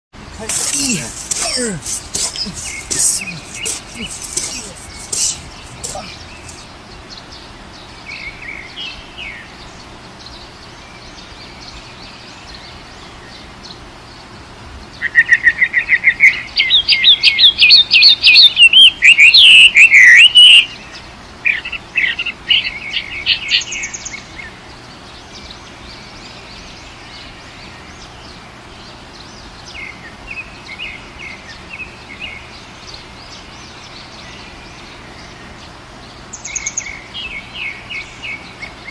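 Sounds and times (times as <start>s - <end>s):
birds chirping and singing: 0.3s - 14.4s, 15.0s - 38.9s.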